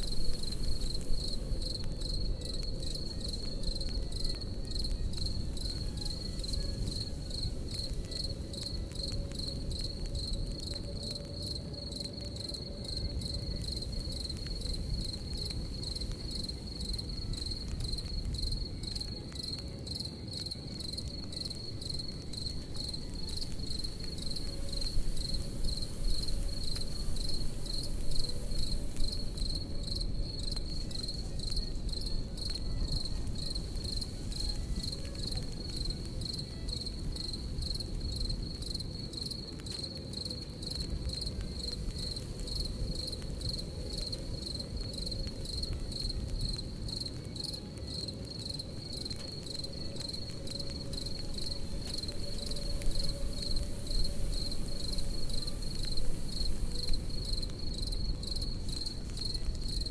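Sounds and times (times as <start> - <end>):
burning wood crackling and popping: 0.0 - 59.9
campfire rumble: 0.0 - 59.9
crickets chirping: 0.0 - 59.9.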